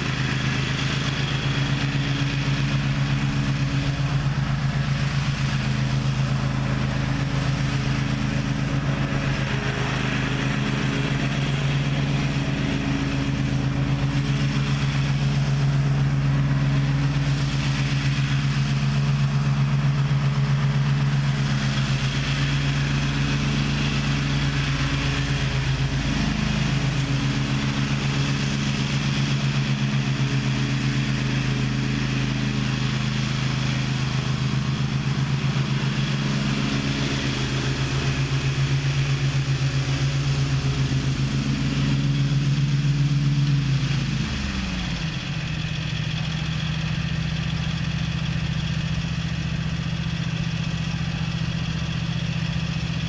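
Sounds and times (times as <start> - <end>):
mower engine running: 0.0 - 53.0.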